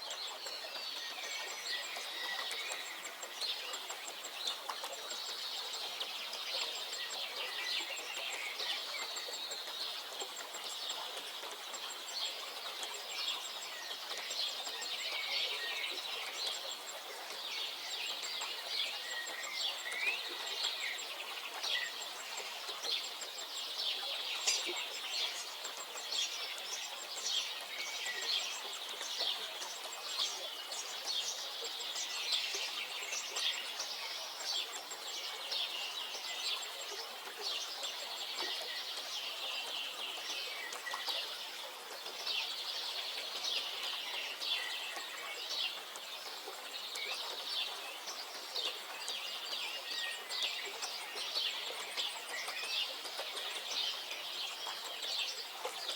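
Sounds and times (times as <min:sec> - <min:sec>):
faint background hiss: 0:00.0 - 0:55.9
songbirds chirping: 0:00.0 - 0:55.9.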